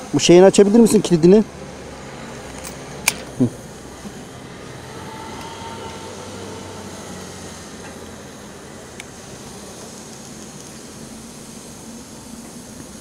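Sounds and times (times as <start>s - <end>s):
fuel nozzle rushing hiss: 0.0s - 13.0s.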